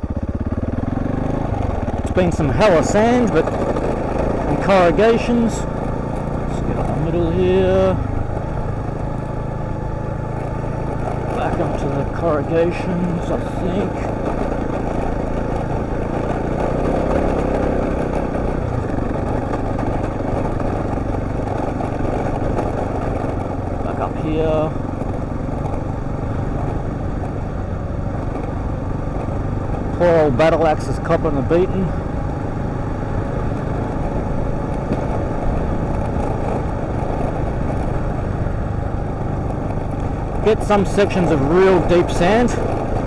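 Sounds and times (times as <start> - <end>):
motorcycle engine running: 0.0 - 43.0
wind and road noise: 0.0 - 43.0
riding noise rush: 0.5 - 43.0.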